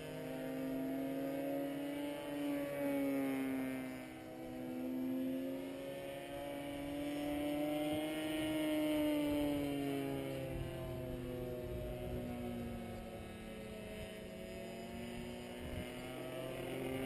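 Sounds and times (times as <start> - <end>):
model plane engine flying overhead: 0.0 - 17.0.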